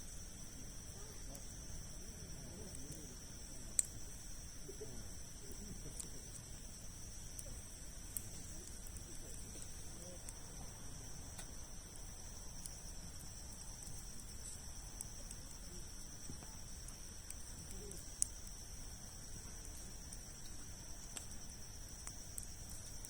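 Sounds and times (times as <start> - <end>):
campfire crackling and popping: 0.0 - 23.0
insect trill: 0.0 - 23.0.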